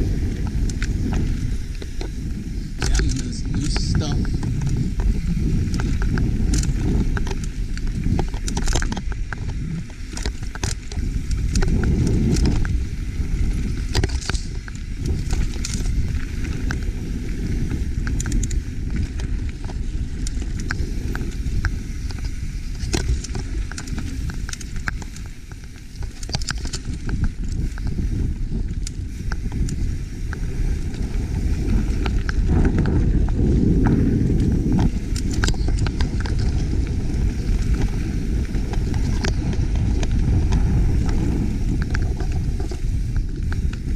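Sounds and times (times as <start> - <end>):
bike clicking and rattling on rocks: 0.0 - 43.9
bike tyres rumbling on dirt: 0.0 - 43.9.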